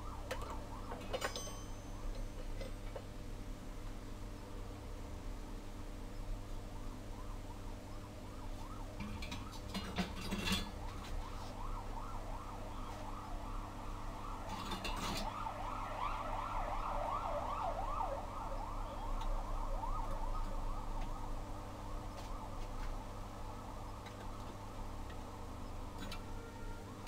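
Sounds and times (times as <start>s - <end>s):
siren in yelp mode: 0.0s - 2.4s, 6.8s - 9.9s, 10.5s - 27.0s.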